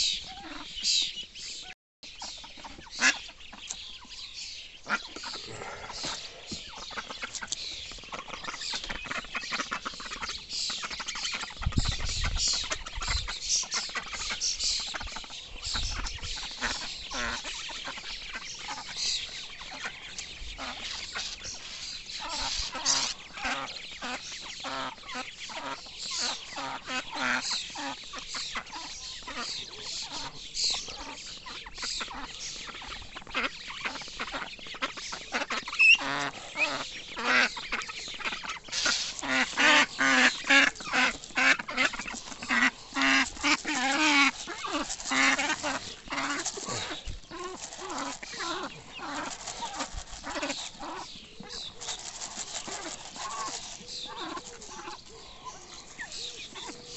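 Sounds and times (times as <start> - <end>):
adult ducks calling: 0.0 - 56.9
ducklings peeping: 0.0 - 56.9.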